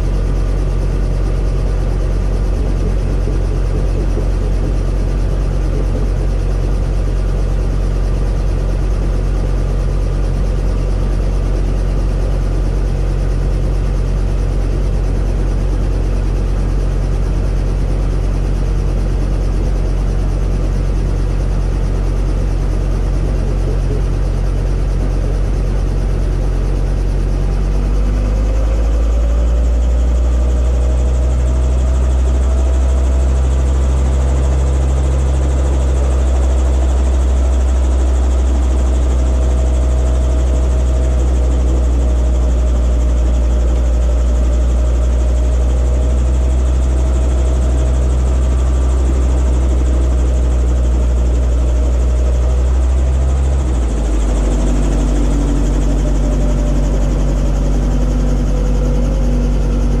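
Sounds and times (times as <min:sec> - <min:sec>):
helicopter low drone: 0:00.0 - 1:00.0
helicopter whine: 0:00.0 - 1:00.0.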